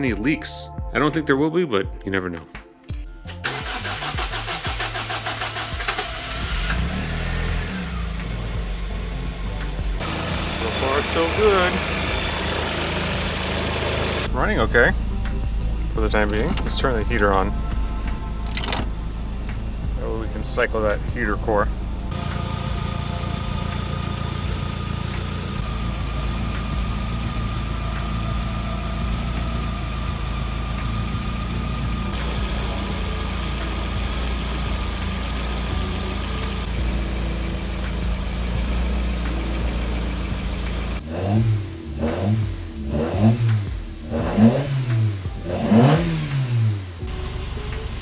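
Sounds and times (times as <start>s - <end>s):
car engine idling and revving: 3.3s - 48.0s.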